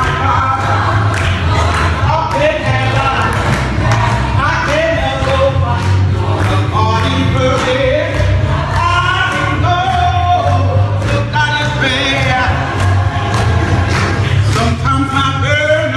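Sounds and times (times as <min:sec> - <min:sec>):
bass and beat: 0:00.0 - 0:15.9
gospel choir singing: 0:00.0 - 0:15.9.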